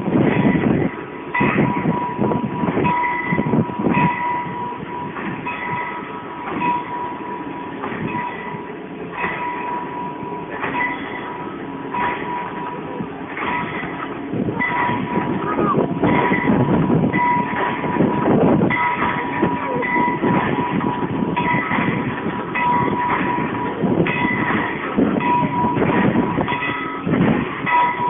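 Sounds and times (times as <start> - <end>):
turntable clanking and rumbling: 0.0 - 28.0.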